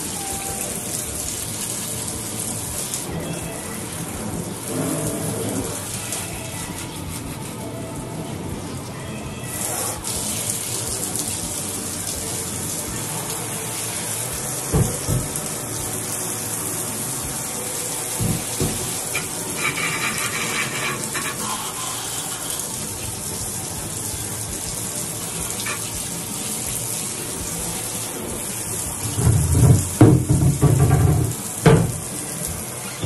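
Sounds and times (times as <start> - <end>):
water running hissing: 0.0 - 33.0.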